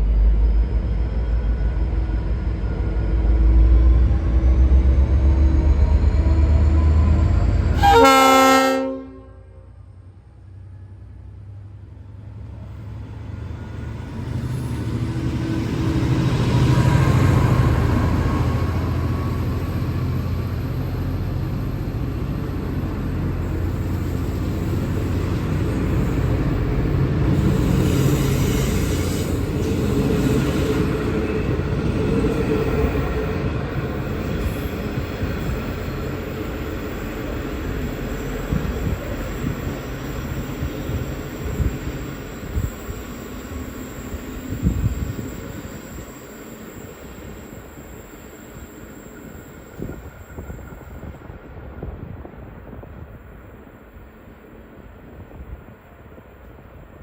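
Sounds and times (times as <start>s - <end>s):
train wheels rumbling: 0.0s - 8.7s, 9.7s - 57.0s
diesel locomotive engine rumble: 0.0s - 57.0s.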